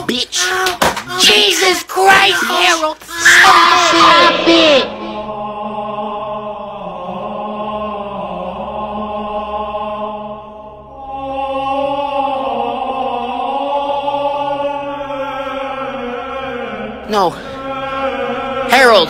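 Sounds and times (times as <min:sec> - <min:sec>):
choral chanting: 0:01.1 - 0:19.0.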